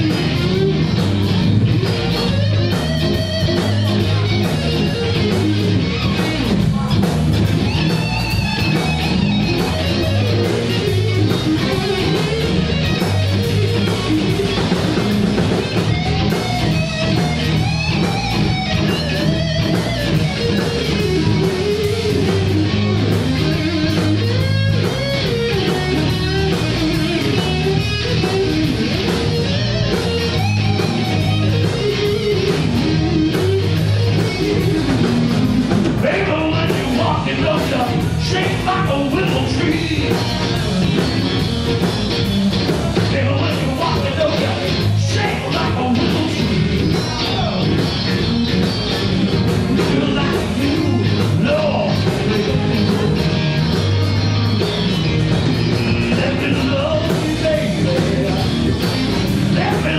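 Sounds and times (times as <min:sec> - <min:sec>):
blues band playing: 0:00.0 - 0:59.9
lead guitar with bent notes: 0:00.0 - 0:59.9.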